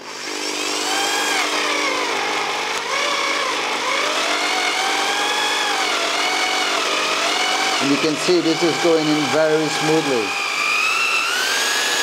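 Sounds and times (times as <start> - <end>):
electric drill whining: 0.0 - 12.0.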